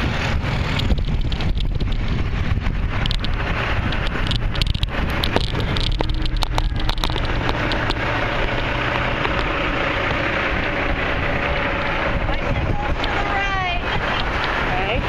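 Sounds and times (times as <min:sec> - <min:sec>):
bicycle clicks and rattles: 0:00.0 - 0:15.0
wind rushing on microphone: 0:00.0 - 0:15.0.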